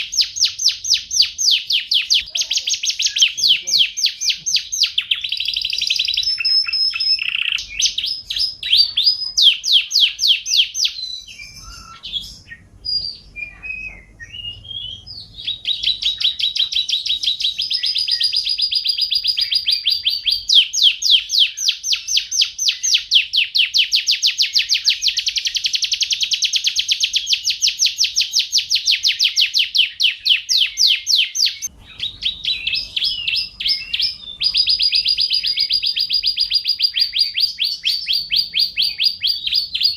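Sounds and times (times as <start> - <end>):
canary trilling song: 0.0 - 39.9.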